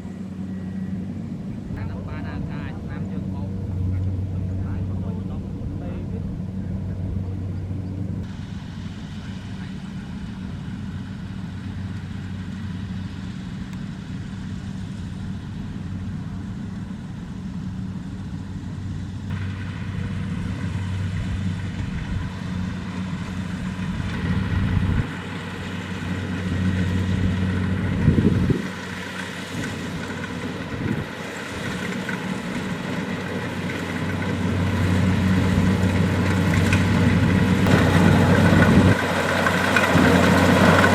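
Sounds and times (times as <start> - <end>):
diesel engine under load: 0.0 - 40.9
harvester machinery whine: 0.0 - 40.9.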